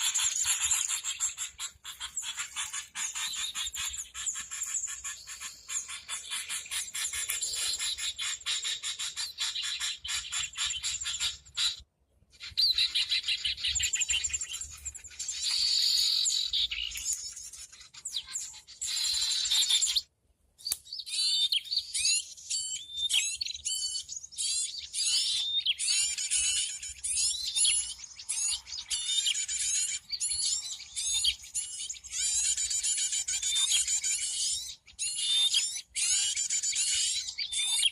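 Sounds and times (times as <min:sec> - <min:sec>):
recorded bird chirping: 0:00.0 - 0:37.9.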